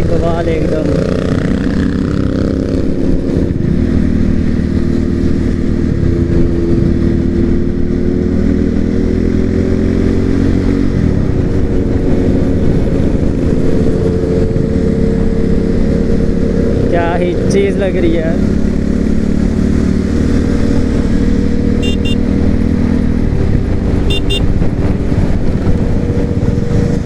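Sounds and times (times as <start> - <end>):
motorcycle engines cruising: 0.0 - 27.0.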